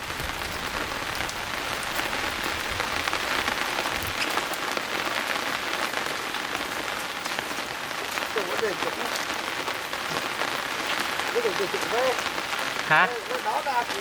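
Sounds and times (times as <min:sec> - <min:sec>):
rain on hard surface: 0:00.0 - 0:14.0.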